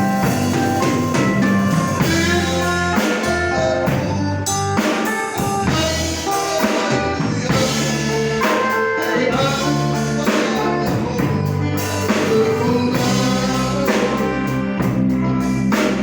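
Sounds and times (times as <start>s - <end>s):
band playing steady beat: 0.0s - 16.0s.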